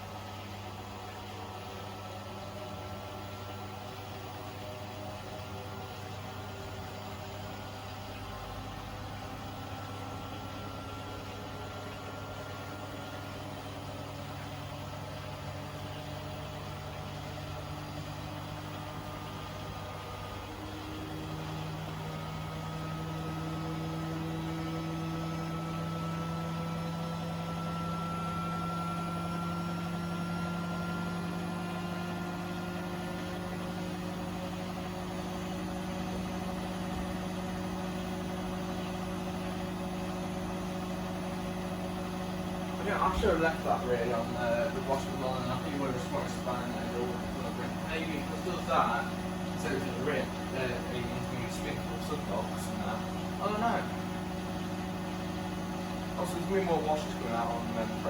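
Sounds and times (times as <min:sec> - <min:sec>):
faint motor whine: 0:00.0 - 0:58.0
washing machine motor hum: 0:00.0 - 0:58.0.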